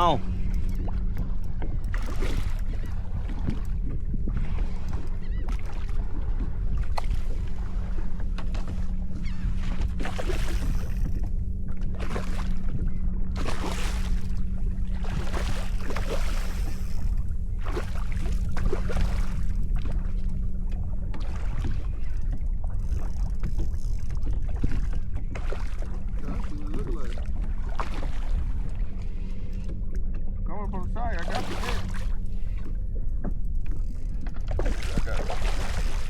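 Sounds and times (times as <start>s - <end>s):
low rumble: 0.0s - 36.0s
water splashing around kayak: 0.0s - 36.0s.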